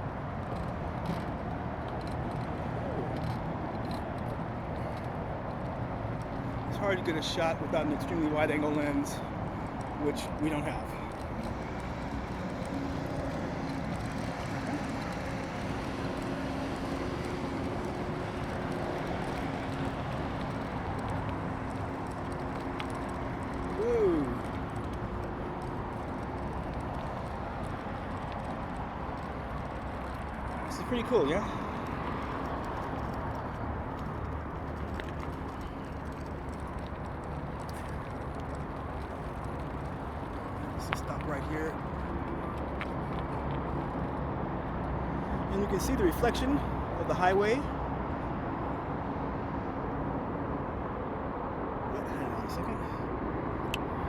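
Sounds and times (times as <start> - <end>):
constant low hum: 0.0 - 50.0
traffic rumble: 0.0 - 54.0.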